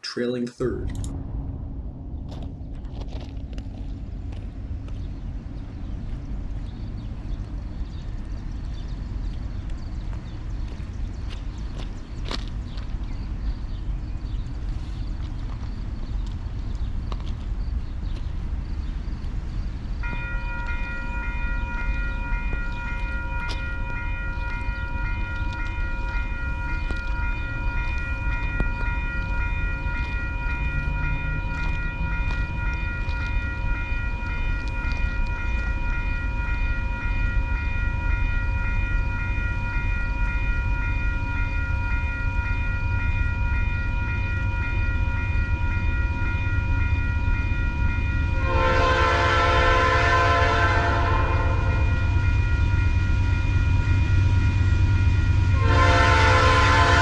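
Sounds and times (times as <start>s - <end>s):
diesel freight train rumbling: 2.9s - 57.0s.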